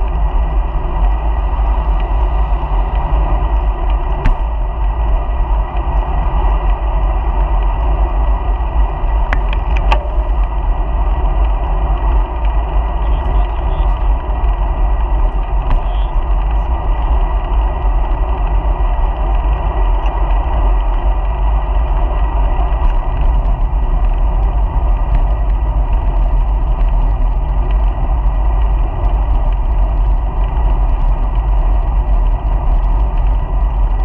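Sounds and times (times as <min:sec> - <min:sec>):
bicycle road noise: 0:00.0 - 0:34.0
wind buffeting microphone: 0:00.0 - 0:34.0.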